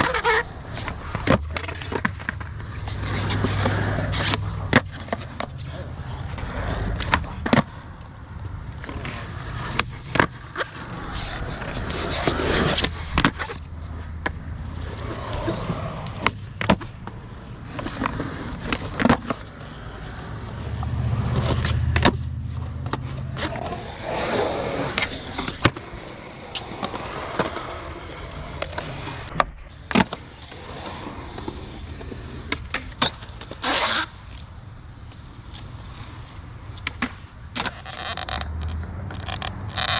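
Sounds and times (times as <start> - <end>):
skateboard clacks: 0.0 - 39.9
skateboards rolling on concrete: 0.0 - 39.9.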